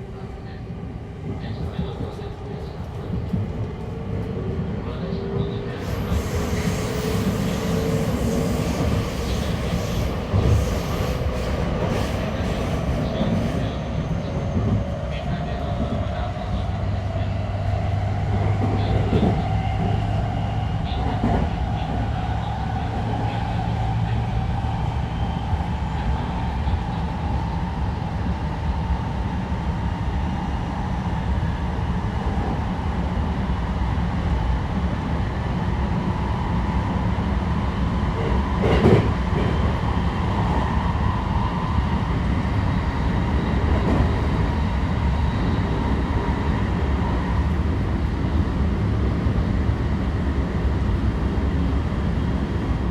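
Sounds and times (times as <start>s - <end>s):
electric train rumbling: 0.0s - 52.9s.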